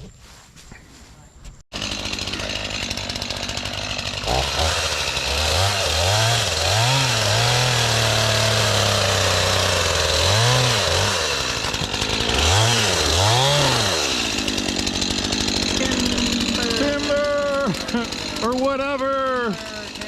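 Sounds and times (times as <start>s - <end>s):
chainsaw revving: 1.7s - 20.0s.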